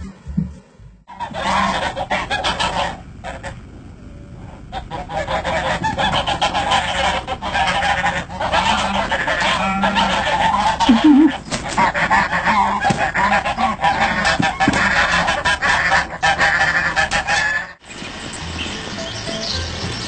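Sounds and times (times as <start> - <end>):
geese honking: 1.1 - 3.7, 4.4 - 20.0.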